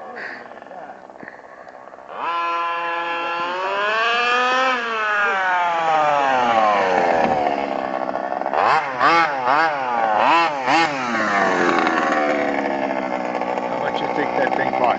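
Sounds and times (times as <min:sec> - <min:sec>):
small two-stroke engine revving: 0:00.0 - 0:14.9.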